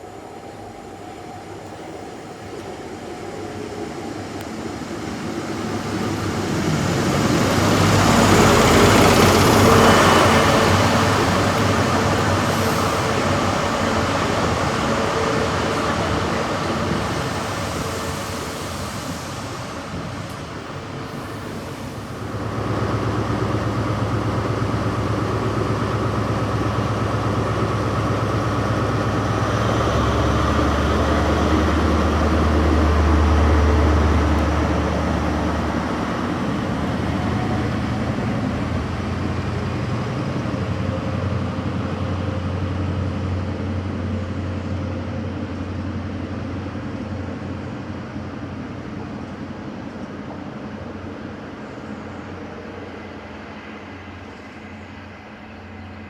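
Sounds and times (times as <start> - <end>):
train engine humming: 0.0 - 56.0.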